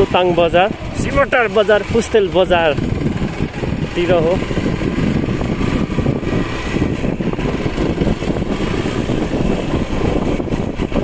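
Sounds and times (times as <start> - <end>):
motorcycle engine at low speed: 0.0 - 11.0
road noise: 0.0 - 11.0.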